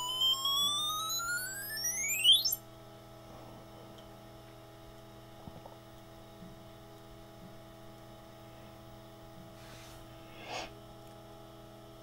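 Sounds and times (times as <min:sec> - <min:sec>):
computer hum and whine: 0:00.0 - 0:12.0.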